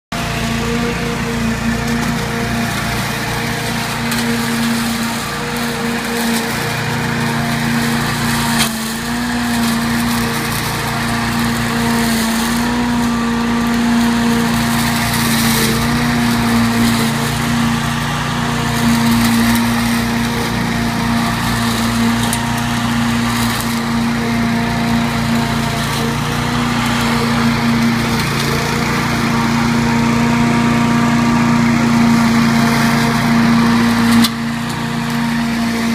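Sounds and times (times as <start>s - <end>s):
lawn mower engine running: 0.0s - 35.9s.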